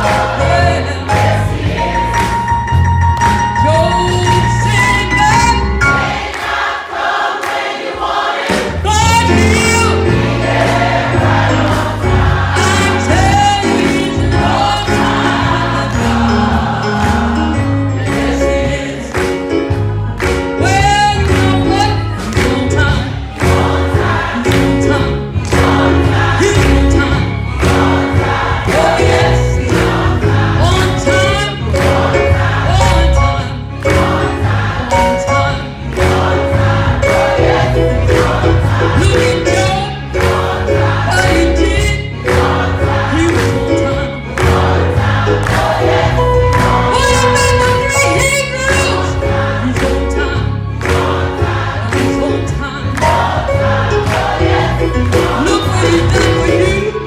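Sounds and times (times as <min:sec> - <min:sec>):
bass line: 0:00.0 - 0:06.3, 0:08.8 - 0:57.0
gospel choir singing: 0:00.0 - 0:57.0
regular beat: 0:00.0 - 0:57.0.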